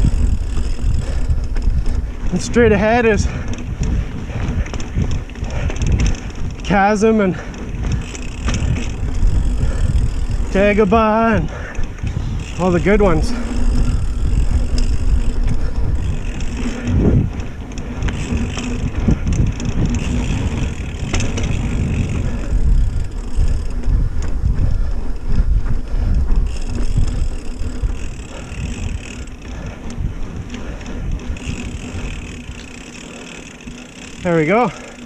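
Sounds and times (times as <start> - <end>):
bike clicks and rattles: 0.0 - 35.0
bike tyres rumbling on dirt: 0.0 - 35.0.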